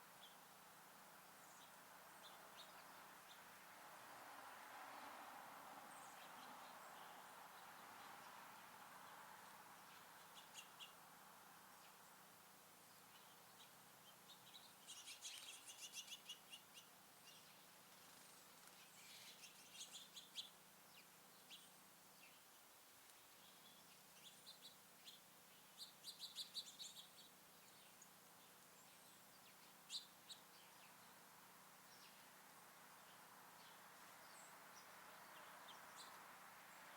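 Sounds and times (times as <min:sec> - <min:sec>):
small songbirds chirping: 0:00.0 - 0:36.9.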